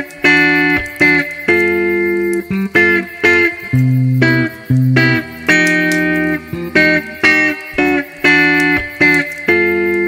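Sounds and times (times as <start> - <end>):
guitar playing a melody: 0.0 - 10.0.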